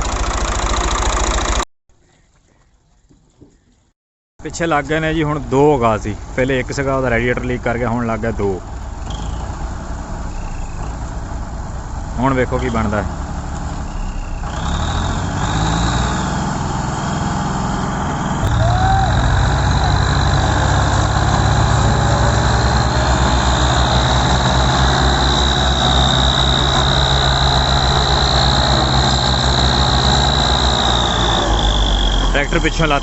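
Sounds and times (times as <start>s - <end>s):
diesel tractor engines under load: 0.0s - 1.6s, 3.0s - 33.0s.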